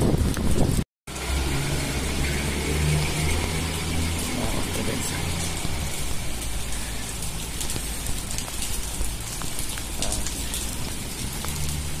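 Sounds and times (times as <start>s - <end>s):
rain on pavement and leaves: 0.0s - 12.0s.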